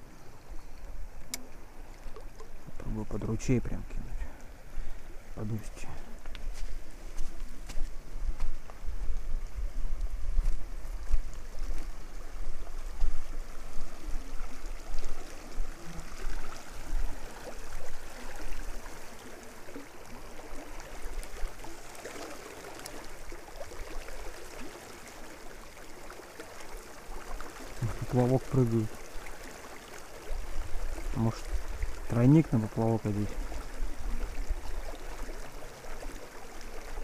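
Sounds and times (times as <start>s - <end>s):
creek rushing and gurgling: 0.0s - 37.0s.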